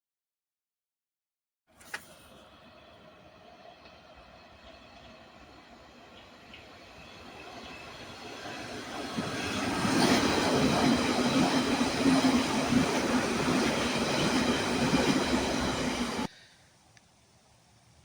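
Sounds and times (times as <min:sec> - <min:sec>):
train passing on track: 0:02.2 - 0:18.0.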